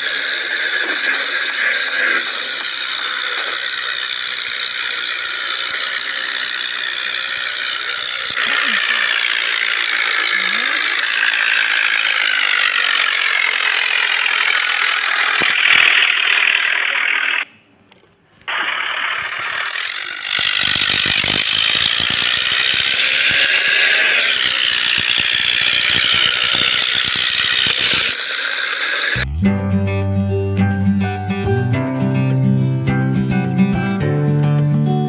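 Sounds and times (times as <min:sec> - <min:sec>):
toy tractor whirring rattle: 0:00.0 - 0:17.5, 0:18.5 - 0:29.2.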